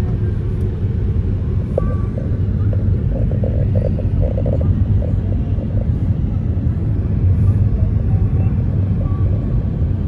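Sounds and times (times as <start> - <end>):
car interior road rumble: 0.0 - 10.0.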